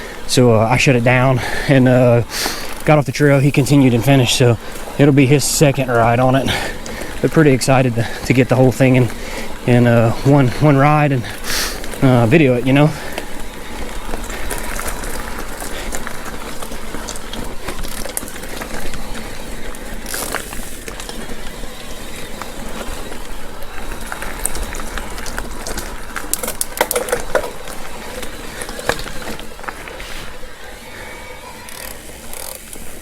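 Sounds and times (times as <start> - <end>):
bike clicks and rattles: 0.0 - 33.0
bike tyres on dirt trail: 0.0 - 33.0.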